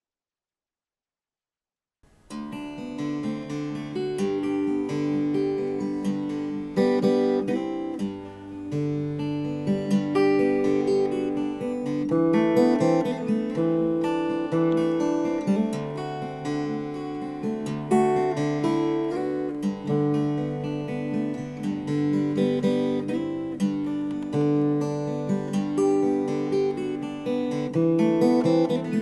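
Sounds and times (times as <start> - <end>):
acoustic guitar plucking and strumming: 2.0 - 29.0.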